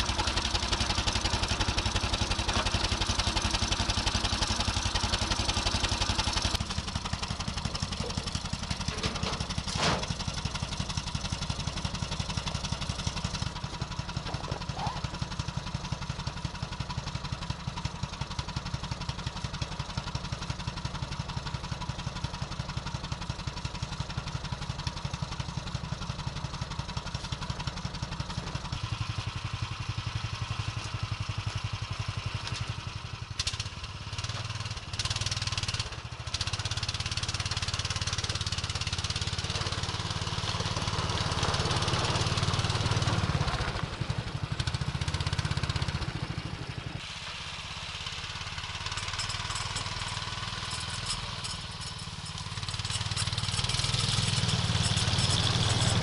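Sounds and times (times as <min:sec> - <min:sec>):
engine with rapid low pulsing: 0:00.0 - 0:56.0.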